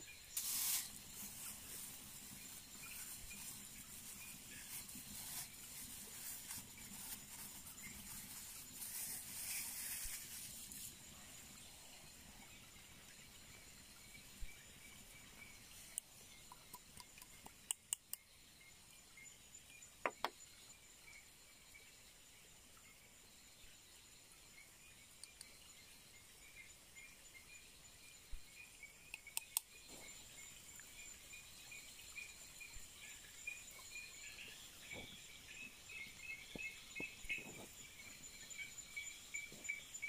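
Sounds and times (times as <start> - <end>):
insects trilling: 0.0 - 21.9, 23.2 - 40.0.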